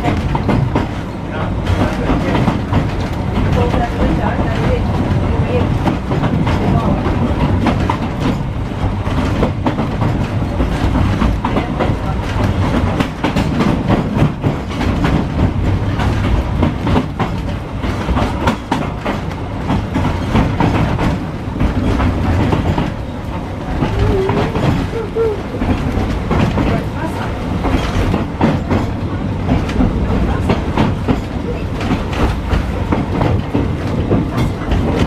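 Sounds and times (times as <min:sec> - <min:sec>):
tram rumbling on track: 0:00.0 - 0:35.0.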